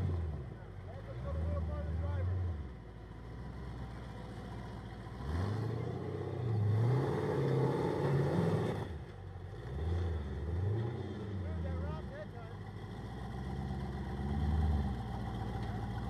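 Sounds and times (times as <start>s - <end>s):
engine revving: 0.0s - 2.8s, 5.0s - 16.0s.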